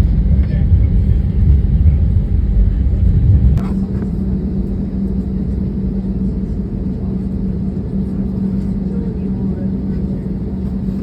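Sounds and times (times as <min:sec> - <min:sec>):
aircraft cabin rumble and hum: 0:00.0 - 0:11.0.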